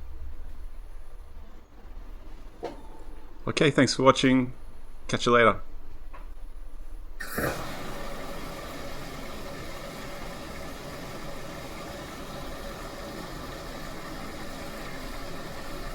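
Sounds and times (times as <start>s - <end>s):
washing machine whirring hum: 0.0s - 15.9s.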